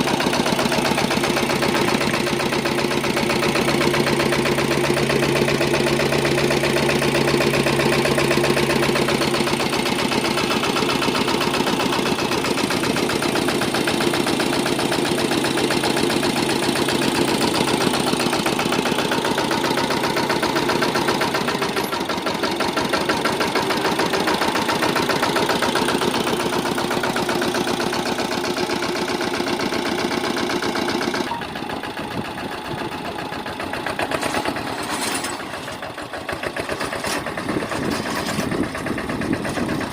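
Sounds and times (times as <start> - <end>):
mini tractor engine running: 0.0 - 39.9.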